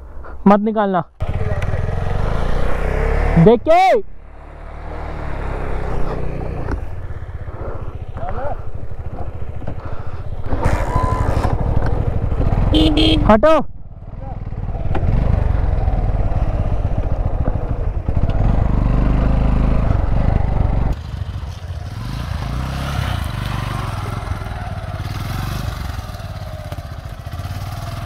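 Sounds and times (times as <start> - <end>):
motorcycle engine revving: 1.2 - 28.0.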